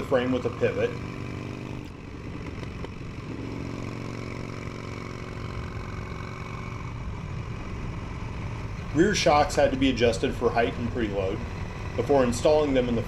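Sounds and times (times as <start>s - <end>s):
low engine-like drone: 1.8s - 13.0s.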